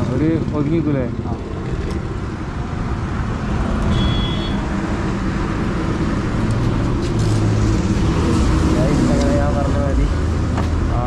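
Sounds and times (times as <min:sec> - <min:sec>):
vehicle engines rumbling: 0:00.0 - 0:11.0.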